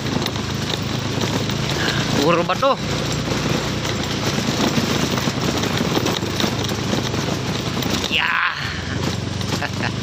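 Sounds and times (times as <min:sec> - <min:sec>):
motorcycle knocks and rattles: 0:00.0 - 0:10.0
small motorcycle engine running: 0:00.0 - 0:10.0.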